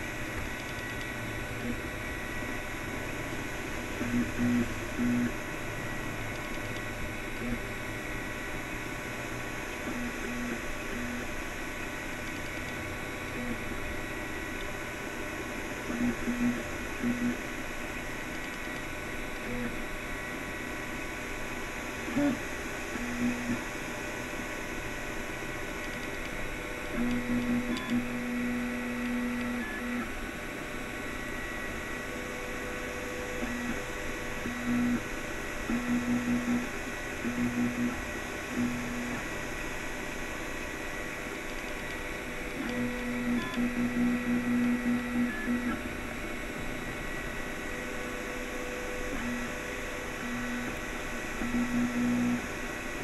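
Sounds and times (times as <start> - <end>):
printer fans whirring: 0.0 - 53.0.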